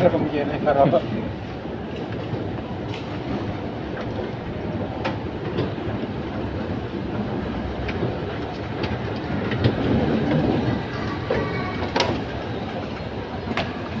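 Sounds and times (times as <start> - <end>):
escalator mechanical rumble: 0.0 - 14.0.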